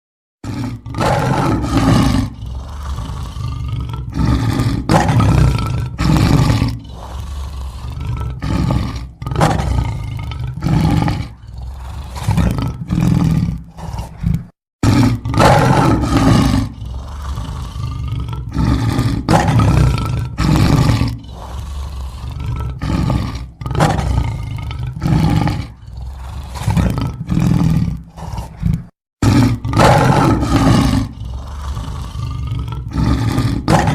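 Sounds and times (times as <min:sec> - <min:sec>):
lions roaring and grunting: 0:00.4 - 0:33.9.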